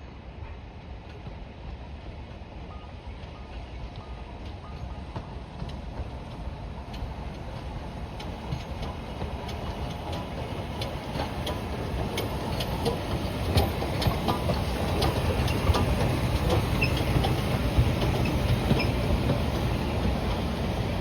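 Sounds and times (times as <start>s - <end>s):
train rumbling: 0.0s - 21.0s
train wheels clicking on track: 0.2s - 21.0s.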